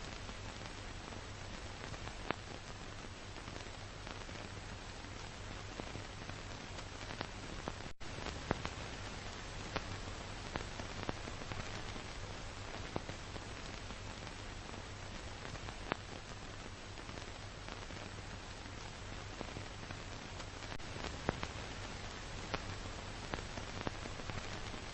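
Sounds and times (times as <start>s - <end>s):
film soundtrack hiss and crackle: 0.0s - 24.9s.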